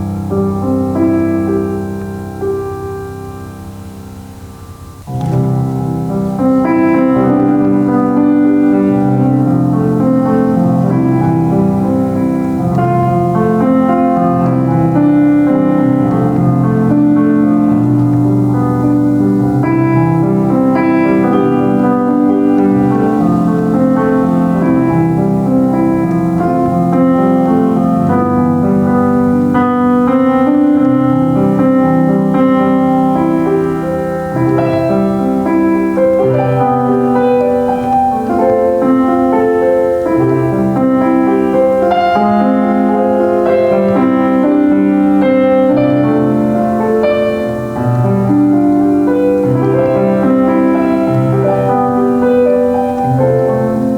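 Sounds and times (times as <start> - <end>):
solo piano playing: 0.0 - 53.9.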